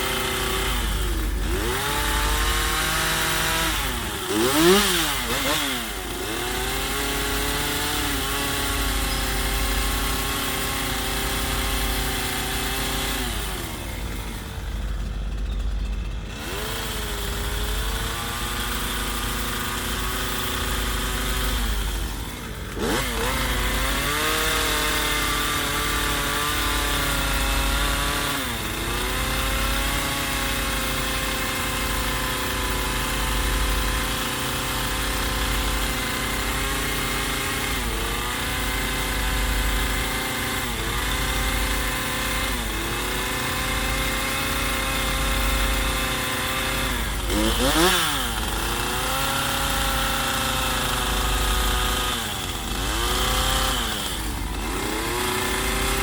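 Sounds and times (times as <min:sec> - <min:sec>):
chainsaw carving into log: 0:00.0 - 0:56.0.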